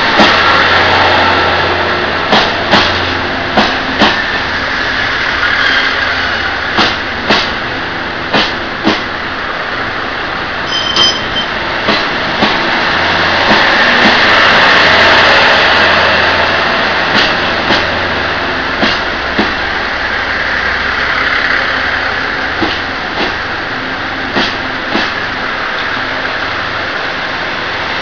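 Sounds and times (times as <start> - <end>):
train rolling drone: 0.0 - 28.0.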